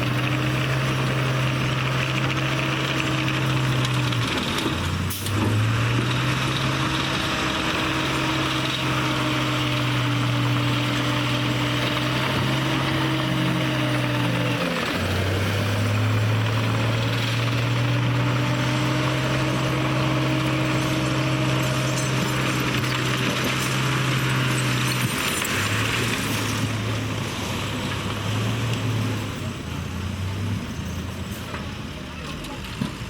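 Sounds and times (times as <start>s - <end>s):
heavy machinery diesel engine: 0.0s - 33.0s
track and dirt noise: 0.0s - 33.0s.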